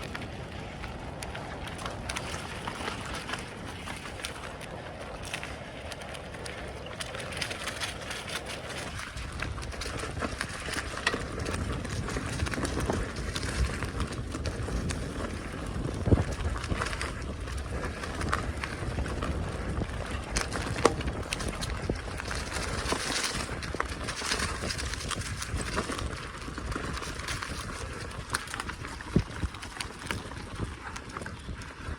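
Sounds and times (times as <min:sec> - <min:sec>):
bicycle rattles and knocks: 0:00.0 - 0:31.9
bicycle tyre and wind rush: 0:00.0 - 0:31.9.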